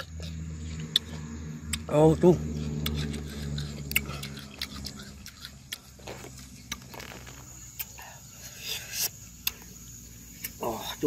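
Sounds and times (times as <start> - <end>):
chewing crisp juicy fruit: 0.0 - 11.0.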